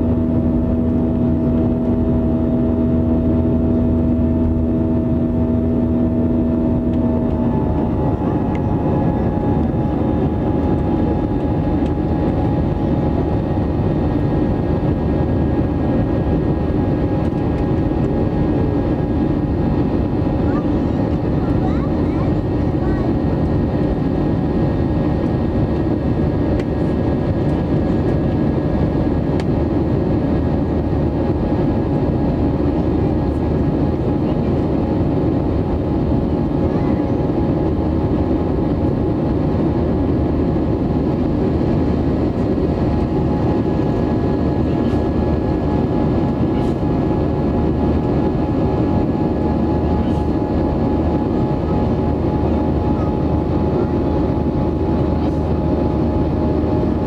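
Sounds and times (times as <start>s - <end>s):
jet cabin rumble with whining: 0.0s - 57.0s.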